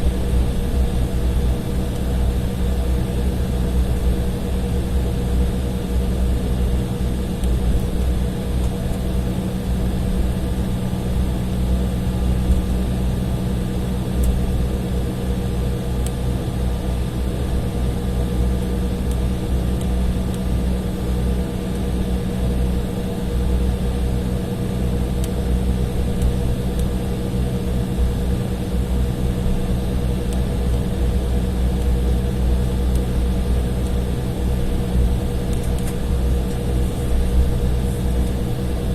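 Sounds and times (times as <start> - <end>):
constant mid-pitched hum: 0.0 - 38.9
jet engines idling rumble: 0.0 - 38.9.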